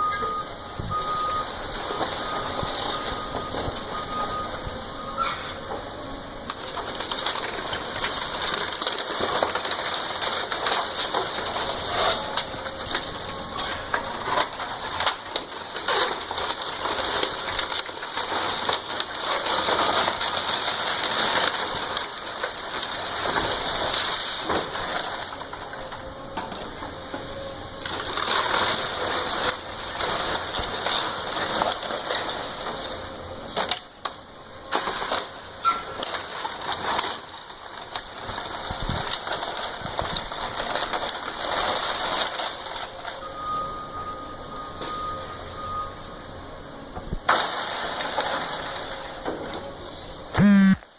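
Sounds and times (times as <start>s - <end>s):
wood and debris crunching: 0.0s - 44.0s, 47.1s - 50.4s.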